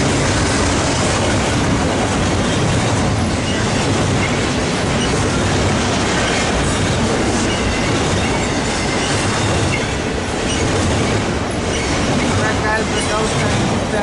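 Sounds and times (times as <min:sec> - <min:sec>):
train wheels clattering over rail: 0:00.0 - 0:14.0.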